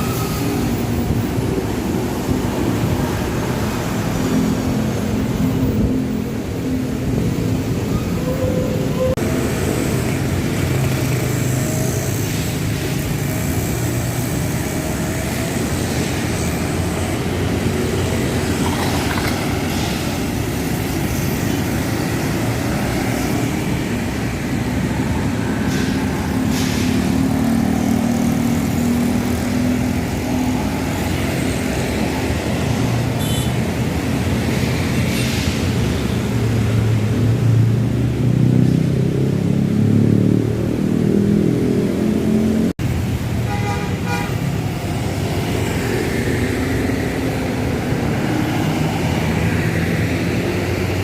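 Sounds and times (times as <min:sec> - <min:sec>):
bus engines droning: 0:00.0 - 0:51.0
street traffic: 0:00.0 - 0:51.0.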